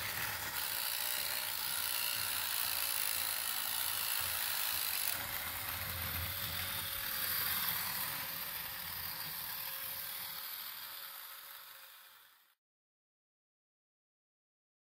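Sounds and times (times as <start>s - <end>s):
toy motor and gears whirring: 0.0s - 12.6s.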